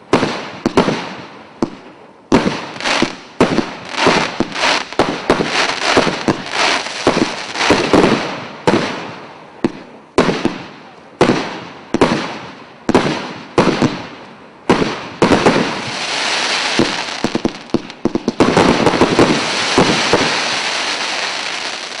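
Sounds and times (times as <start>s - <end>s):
firework shots with fizzing tails: 0.1s - 22.0s
rapid firework barrage: 0.1s - 22.0s.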